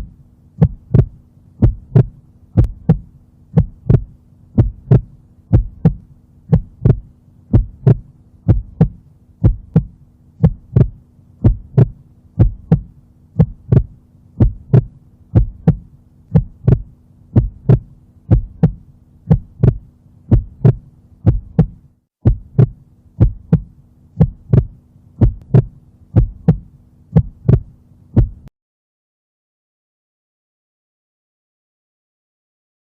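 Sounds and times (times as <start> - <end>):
faint steady hum: 0.0 - 28.5
heartbeat through stethoscope: 0.0 - 28.5.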